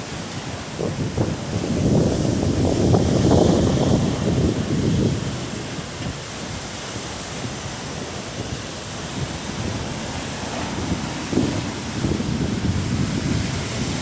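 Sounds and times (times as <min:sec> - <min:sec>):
wind and rain rushing hiss: 0:00.0 - 0:14.0
wind gust buffeting microphone: 0:00.0 - 0:14.0.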